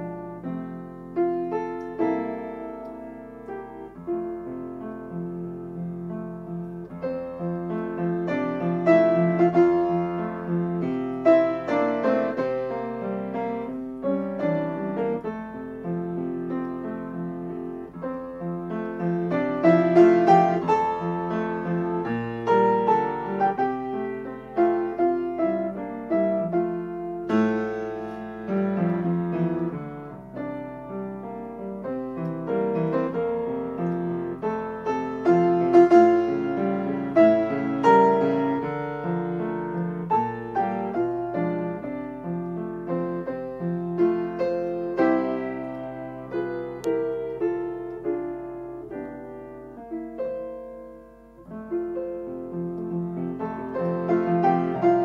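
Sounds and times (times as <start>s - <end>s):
solo grand piano piece: 0.0s - 55.0s.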